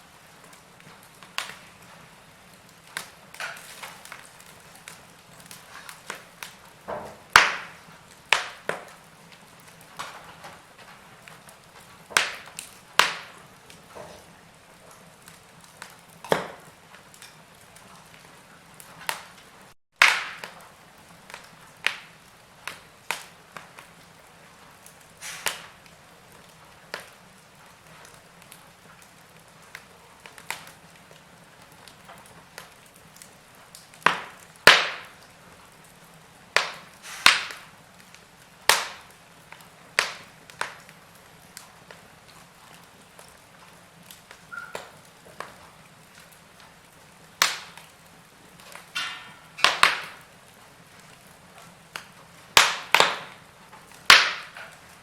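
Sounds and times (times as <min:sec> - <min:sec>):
low steady hiss: 0:00.0 - 0:55.0
wood fire crackling: 0:00.0 - 0:55.0.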